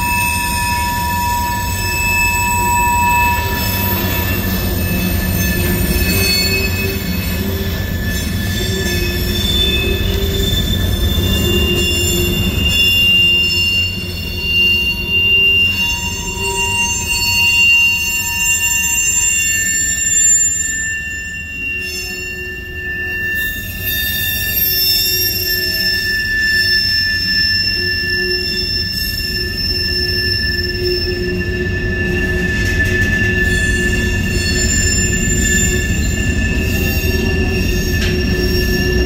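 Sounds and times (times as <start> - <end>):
freight train rumbling: 0.0 - 39.0
high thin squealing tones: 0.0 - 39.0.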